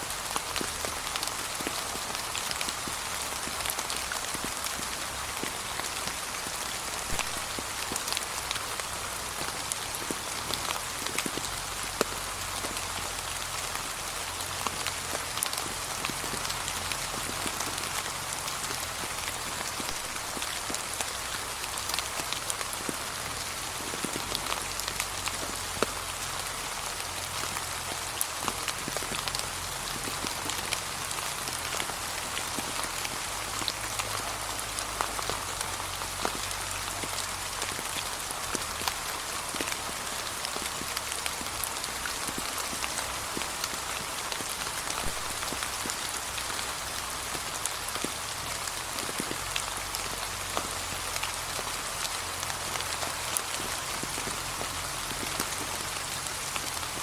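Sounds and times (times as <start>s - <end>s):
rain on fallen leaves: 0.0s - 57.0s.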